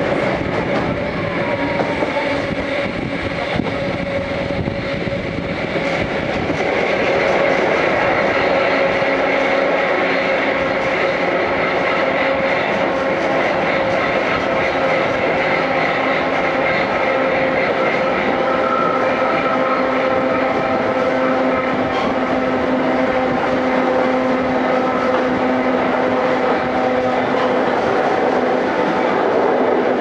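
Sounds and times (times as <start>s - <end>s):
wheels rushing on rail: 0.0s - 30.0s.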